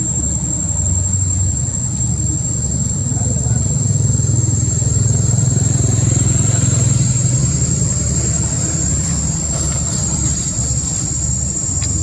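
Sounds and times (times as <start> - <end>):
high-pitched whine: 0.0 - 12.0
low engine-like rumble: 0.0 - 12.0.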